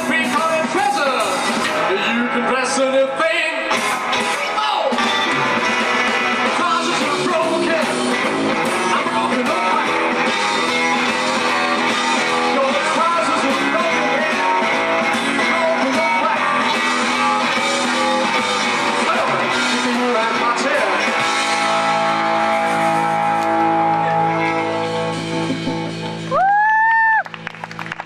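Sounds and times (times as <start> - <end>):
blues band playing: 0.0 - 28.0
electric guitar: 0.0 - 28.0.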